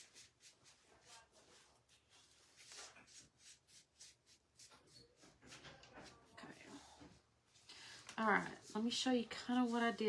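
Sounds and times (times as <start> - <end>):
paintbrush strokes: 0.0 - 10.0.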